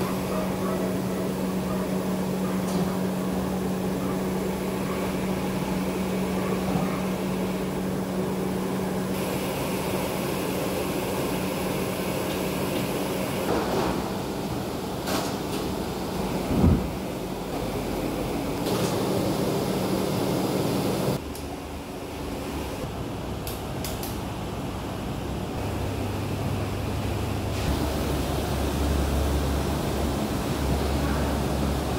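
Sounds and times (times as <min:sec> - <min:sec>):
kitchen fan drone: 0:00.0 - 0:31.9.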